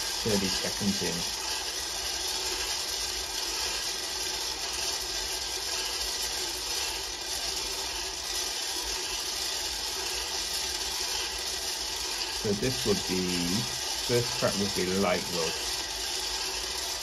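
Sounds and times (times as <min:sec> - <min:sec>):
coffee beans rattling in roaster: 0:00.0 - 0:17.0
low motor hum: 0:00.0 - 0:17.0.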